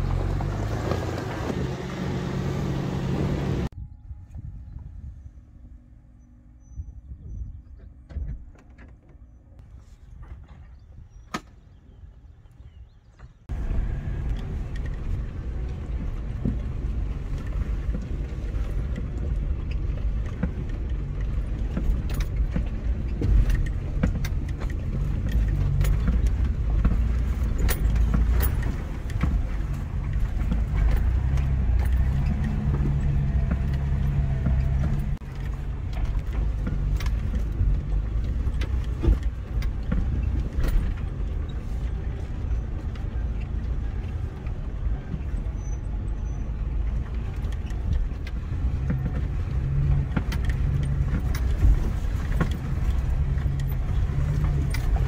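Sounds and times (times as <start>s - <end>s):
off-road engine at low revs: 0.0s - 55.0s.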